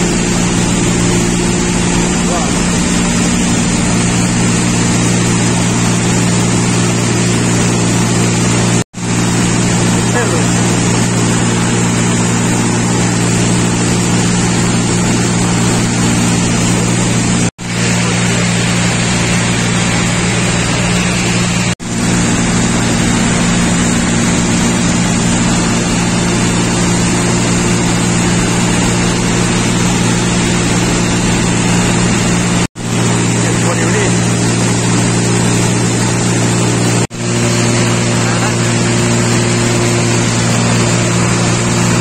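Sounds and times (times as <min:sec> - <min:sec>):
aircraft engine droning in cabin: 0:00.0 - 0:35.4, 0:36.4 - 0:42.0
loud rushing noise: 0:00.0 - 0:42.0.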